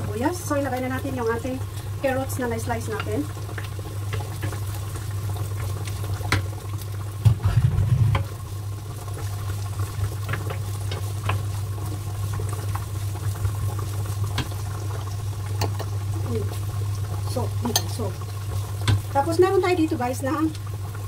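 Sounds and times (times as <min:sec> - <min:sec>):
vegetables sizzling in a frying pan: 0:00.0 - 0:21.0.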